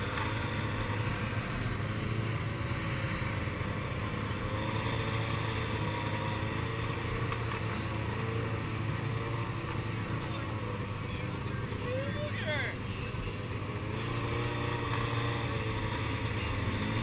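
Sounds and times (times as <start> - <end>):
small engine running at low revs: 0.0 - 17.0.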